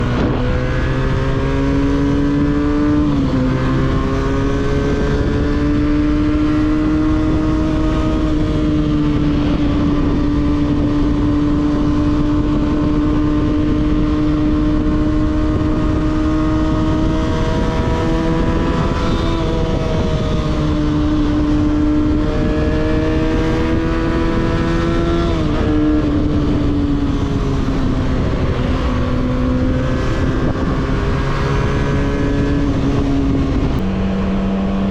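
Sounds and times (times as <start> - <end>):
motorcycle engine cruising: 0.0 - 34.9
wind rushing: 0.0 - 34.9.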